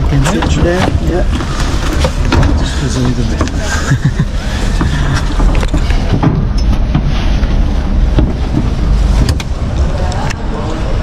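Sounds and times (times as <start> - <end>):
knocks and thuds of passengers: 0.0 - 10.3
truck engine idling: 0.0 - 11.0.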